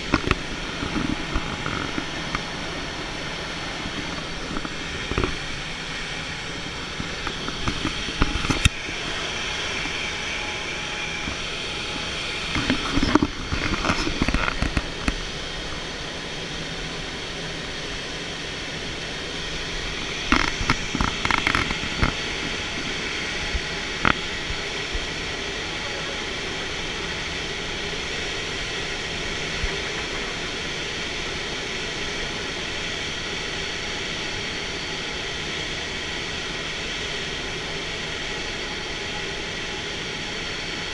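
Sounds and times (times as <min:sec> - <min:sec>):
aircraft rushing drone: 0:00.0 - 0:40.9.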